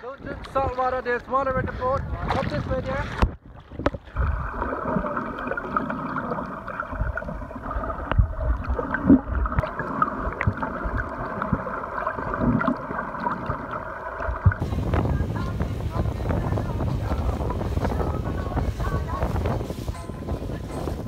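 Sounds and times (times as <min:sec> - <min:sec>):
underwater gurgling and bubbling: 0:01.6 - 0:21.0
steady underwater hum: 0:03.5 - 0:21.0.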